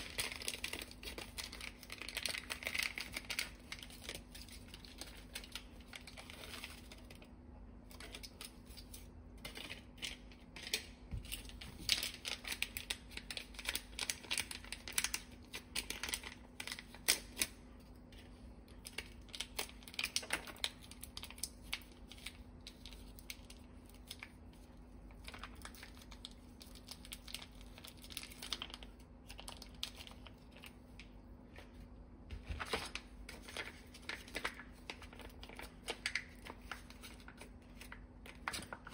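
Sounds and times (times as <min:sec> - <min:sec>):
plastic sachets crinkling: 0:00.0 - 0:38.9.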